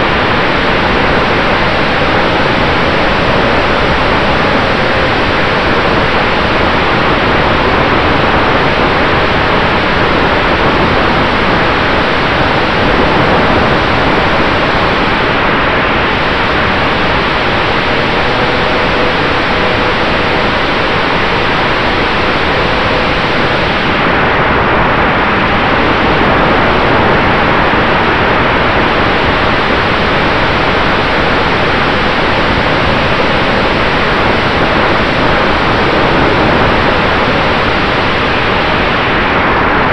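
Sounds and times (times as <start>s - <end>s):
electric motor and propeller whine: 0.0s - 38.8s
rushing wind noise: 0.0s - 39.9s.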